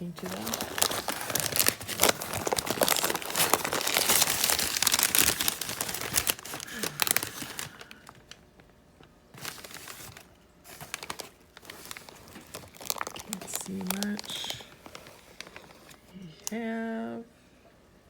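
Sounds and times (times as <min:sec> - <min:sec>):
packing material crinkling: 0:00.0 - 0:08.7, 0:09.3 - 0:16.2.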